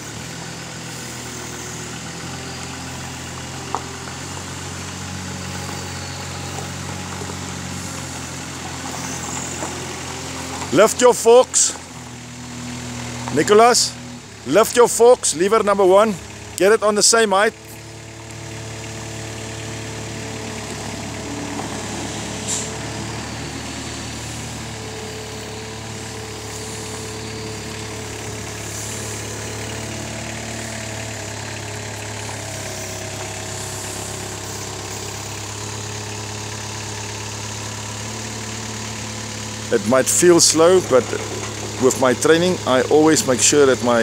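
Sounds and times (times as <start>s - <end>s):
forklift engine running: 0.0s - 44.0s.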